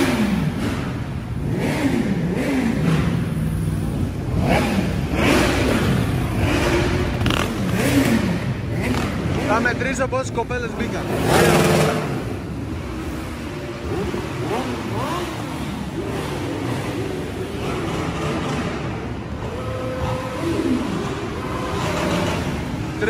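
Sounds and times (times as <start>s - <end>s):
engines running steadily: 0.0s - 23.0s
vehicle engine revving: 0.0s - 23.0s.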